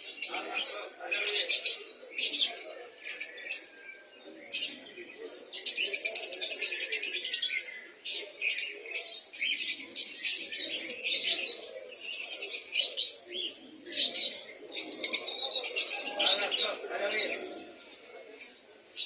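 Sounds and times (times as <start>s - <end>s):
small birds chirping and twittering: 0.0s - 19.0s.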